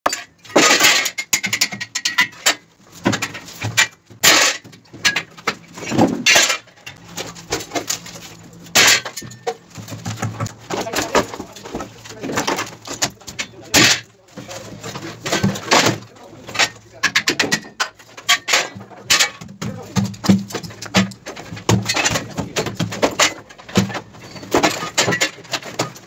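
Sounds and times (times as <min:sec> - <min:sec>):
metallic clanks and knocks: 0:00.0 - 0:26.0.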